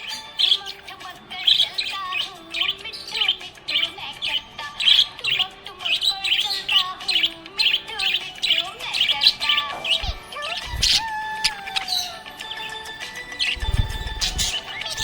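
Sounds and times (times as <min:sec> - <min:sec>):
budgerigar chirping: 0:00.0 - 0:15.0.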